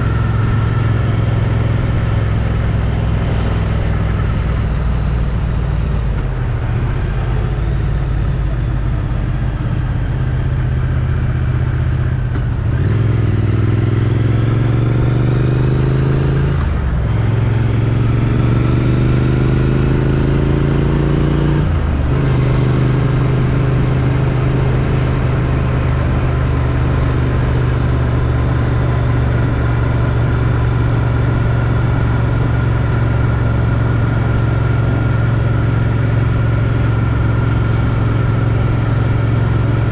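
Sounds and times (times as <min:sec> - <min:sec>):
motorcycle engine with gear shifts: 0:00.0 - 0:39.9.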